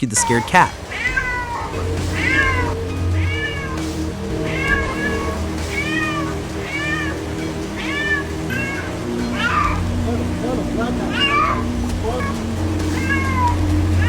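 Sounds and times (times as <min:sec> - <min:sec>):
background music: 0:00.0 - 0:14.0
cat meowing: 0:00.0 - 0:14.0.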